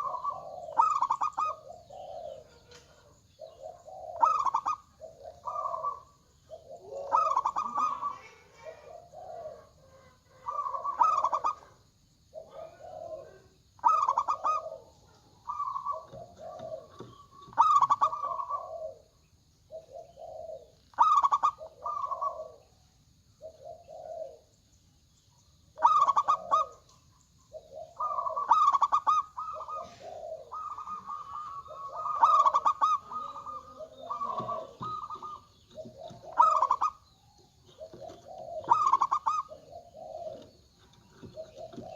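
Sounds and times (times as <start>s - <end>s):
doves cooing: 0.0s - 24.6s, 25.5s - 41.9s.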